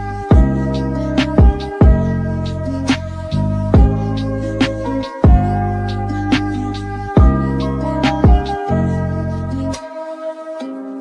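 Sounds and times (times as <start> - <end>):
deep bass: 0.0 - 9.8
melody of held notes: 0.0 - 11.0.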